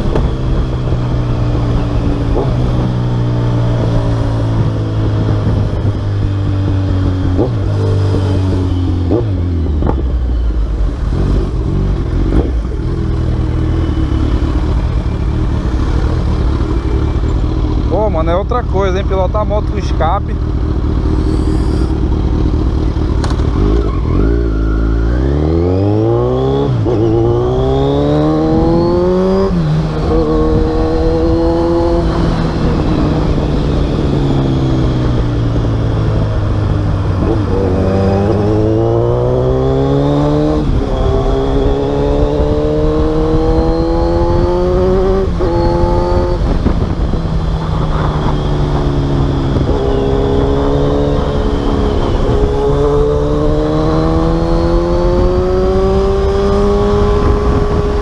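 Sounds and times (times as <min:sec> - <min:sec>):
motorcycle engine accelerating hard: 0:00.0 - 0:58.0.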